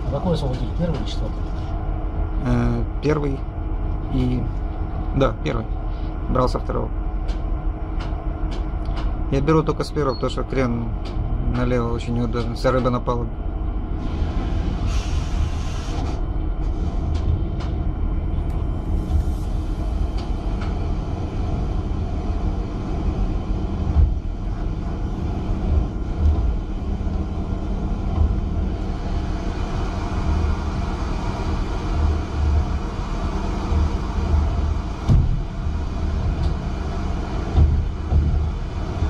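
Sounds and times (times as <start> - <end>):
deck machinery rumble: 0.0 - 39.0
wind: 0.0 - 39.0.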